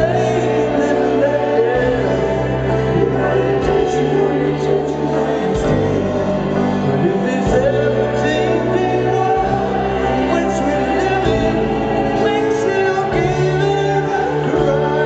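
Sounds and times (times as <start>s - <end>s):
man singing lead vocals: 0.0s - 15.0s
rock band playing: 0.0s - 15.0s.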